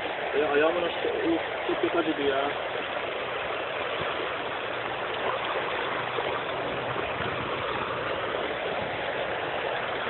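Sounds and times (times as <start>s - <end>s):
creek water flowing over stones: 0.0s - 10.0s.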